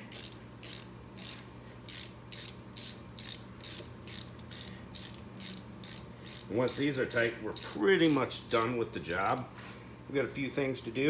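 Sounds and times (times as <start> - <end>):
hand ratchet clicking: 0.0 - 9.5.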